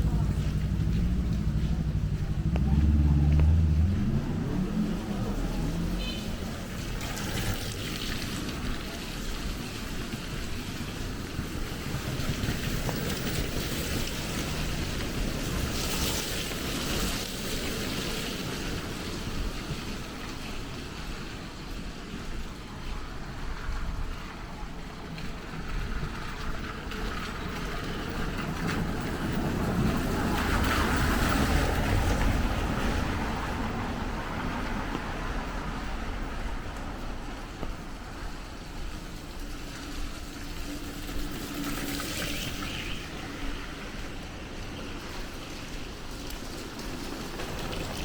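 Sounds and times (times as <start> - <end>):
rain on wet street: 0.0 - 48.0
vehicle passing on wet road: 0.0 - 48.0.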